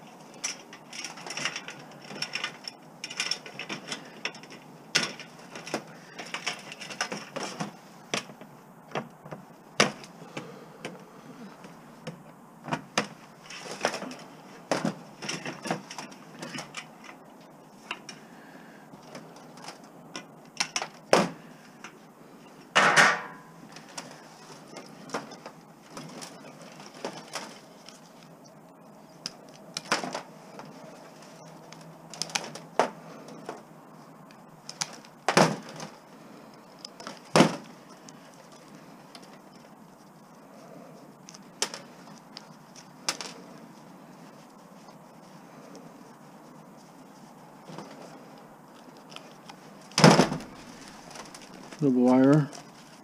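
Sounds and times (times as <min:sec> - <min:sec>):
hand tools and metal parts clinking: 0:00.0 - 0:09.1, 0:13.0 - 0:22.0, 0:22.7 - 0:53.0.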